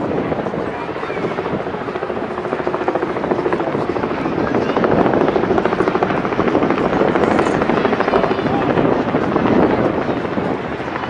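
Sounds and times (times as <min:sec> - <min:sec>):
jet airliner engines rumbling: 0:00.0 - 0:11.0.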